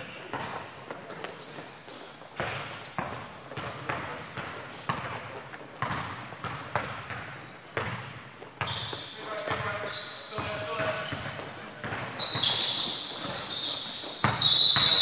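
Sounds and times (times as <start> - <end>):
basketball bouncing on gym floor: 0.0 - 1.3, 2.4 - 15.0
sneaker squeaks: 0.0 - 15.0.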